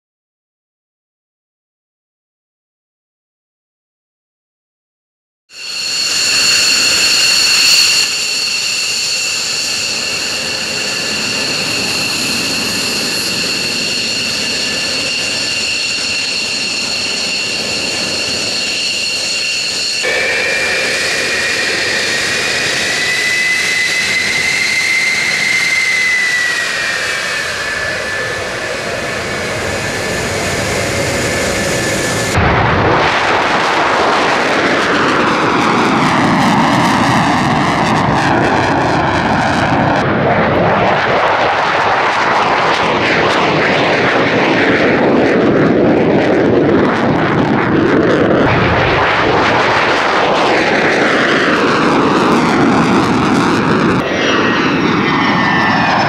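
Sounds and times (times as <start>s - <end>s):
jet engines whining: 5.5s - 56.0s.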